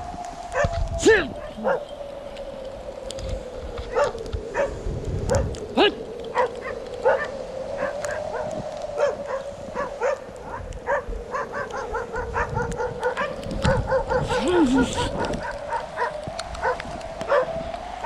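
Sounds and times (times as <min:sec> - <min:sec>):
wavering whine: 0:00.0 - 0:18.0
wind rumble on microphone: 0:00.0 - 0:18.0.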